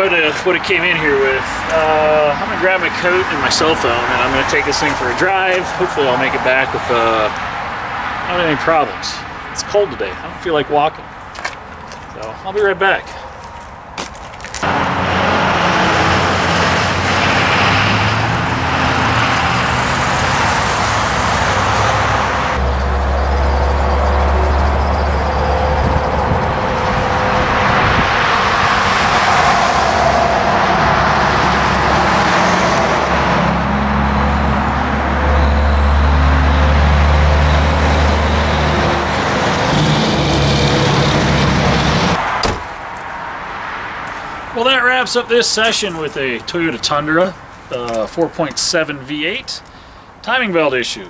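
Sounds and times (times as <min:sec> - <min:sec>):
cars and trucks driving past: 0:00.0 - 0:50.8.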